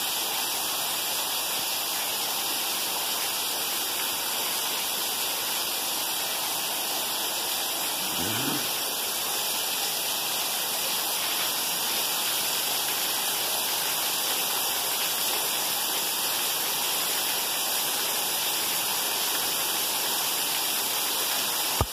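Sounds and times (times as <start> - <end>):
heavy rain: 0.0 - 21.9
runoff splashing on paved floor: 0.0 - 21.9.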